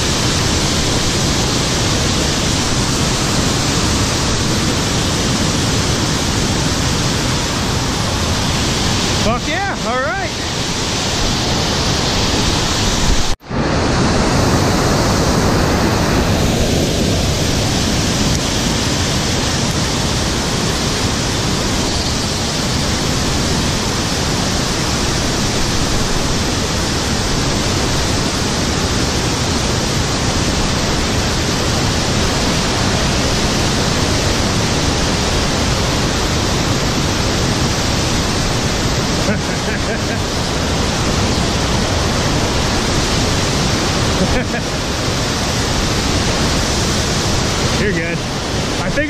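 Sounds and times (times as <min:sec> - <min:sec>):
river water rushing over rapids: 0:00.0 - 0:49.0.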